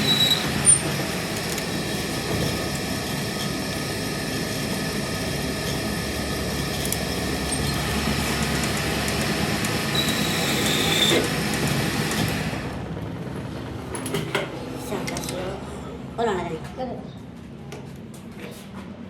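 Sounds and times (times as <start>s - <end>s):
machine running steadily: 0.0s - 16.4s.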